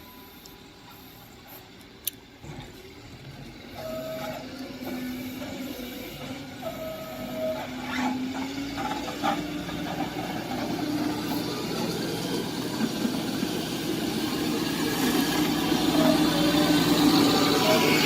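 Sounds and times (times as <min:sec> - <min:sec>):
heavy diesel engines running: 0:00.0 - 0:18.0.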